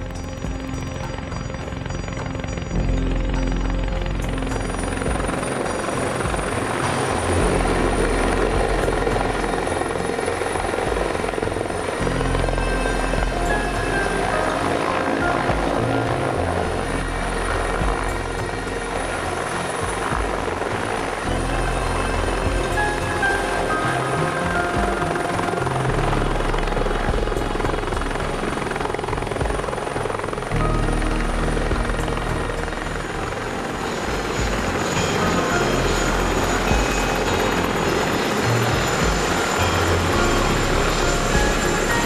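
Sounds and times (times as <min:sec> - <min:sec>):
helicopter rotor beat: 0:00.0 - 0:42.0
high turbine whine: 0:00.0 - 0:42.0.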